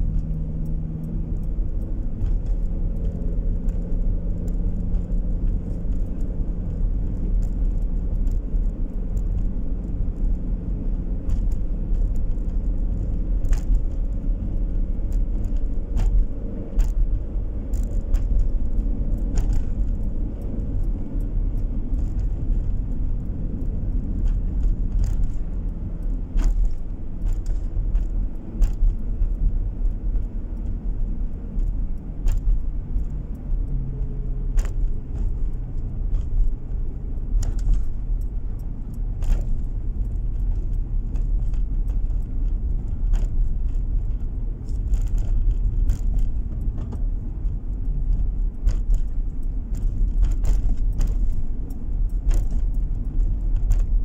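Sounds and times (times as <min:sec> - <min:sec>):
car engine and tyre rumble: 0:00.0 - 0:54.0
small clicks and rattles: 0:00.0 - 0:54.0.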